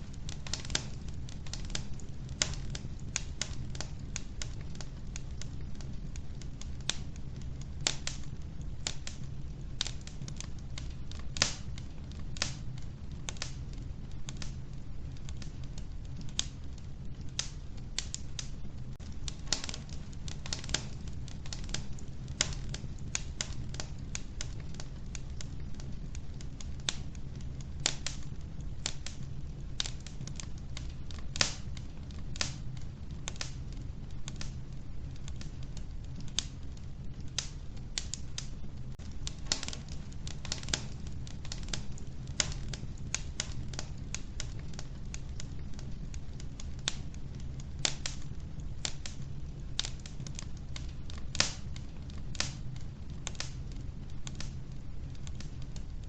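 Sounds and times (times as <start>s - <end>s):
burning logs crackling and popping: 0.0s - 56.0s
low rumble of flames: 0.0s - 56.0s.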